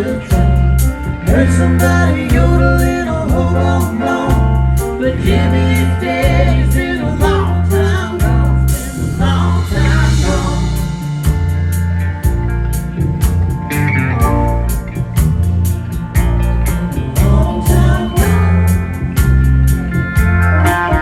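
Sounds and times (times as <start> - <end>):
country band playing: 0.0 - 21.0
drums and bass beat: 0.0 - 21.0
wavering lead melody: 0.0 - 21.0.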